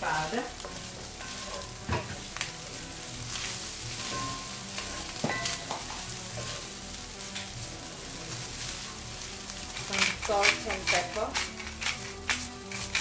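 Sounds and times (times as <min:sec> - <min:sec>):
meat sizzling in a skillet: 0:00.0 - 0:13.0
utensil scraping a pan: 0:00.6 - 0:13.0.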